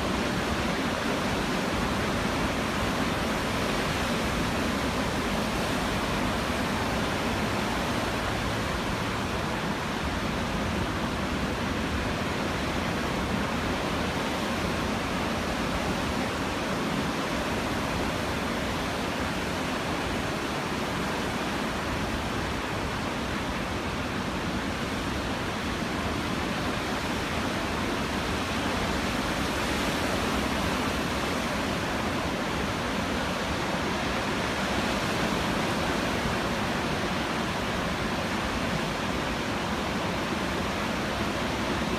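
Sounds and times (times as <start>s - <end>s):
ocean surf roar: 0.0s - 41.9s.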